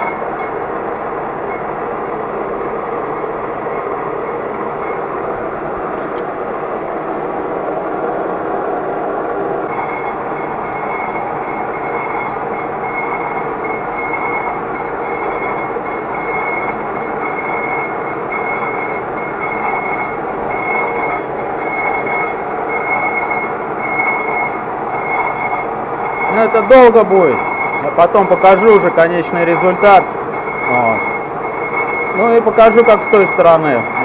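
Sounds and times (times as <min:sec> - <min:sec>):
lathe tool grinding brake disc: 0:00.0 - 0:06.7, 0:09.6 - 0:34.0
high pulsing ringing tone: 0:00.0 - 0:07.9, 0:09.4 - 0:34.0.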